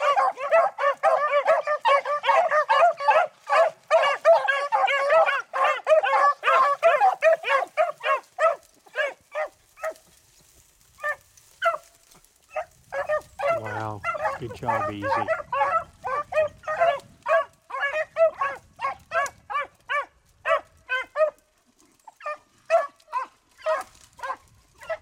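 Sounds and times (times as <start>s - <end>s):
dogs baying: 0.0s - 10.1s, 12.5s - 21.4s, 22.0s - 25.0s.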